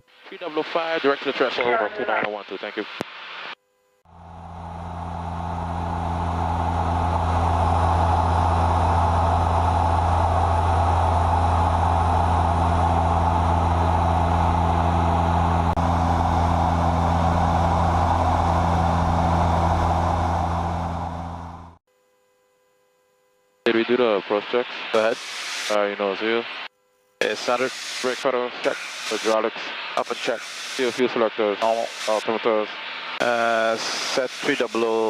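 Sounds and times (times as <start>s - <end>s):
turboprop engines droning: 4.1s - 21.8s, 23.7s - 35.0s.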